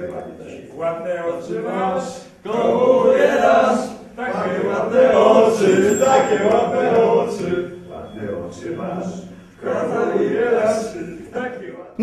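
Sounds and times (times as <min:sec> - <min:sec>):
men singing unaccompanied: 0:00.0 - 0:11.9.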